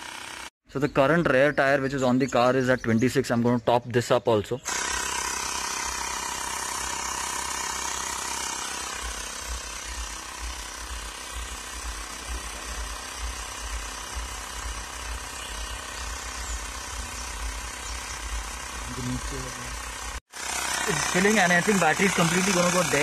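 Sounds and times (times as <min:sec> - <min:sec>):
tyre inflator compressor pulsing: 0:00.0 - 0:00.5, 0:04.7 - 0:23.0.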